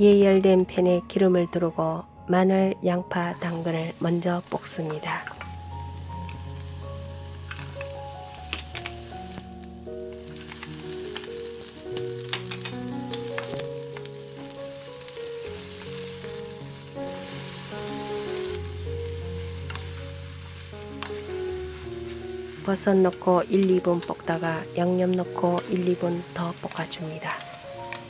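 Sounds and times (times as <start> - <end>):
soft background music: 0.0 - 28.0
vegetables sizzling in hot oil: 3.3 - 28.0.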